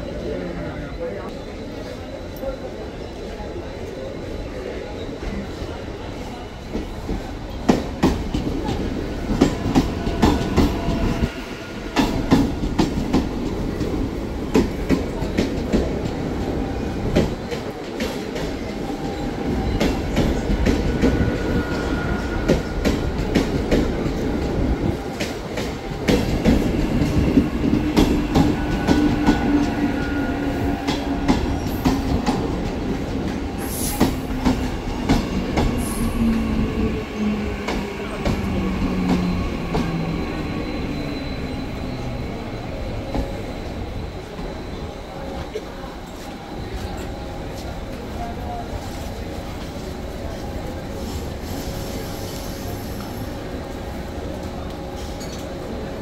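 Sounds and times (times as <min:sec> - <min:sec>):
train rumble: 0:05.2 - 0:56.0.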